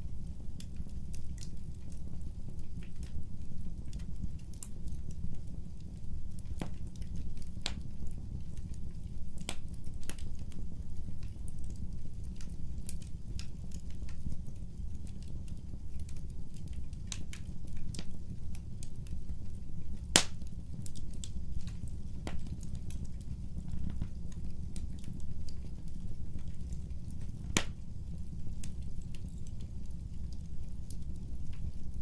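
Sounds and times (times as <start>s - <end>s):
fire low rumble: 0.0s - 32.0s
wood crackling and popping: 0.0s - 32.0s.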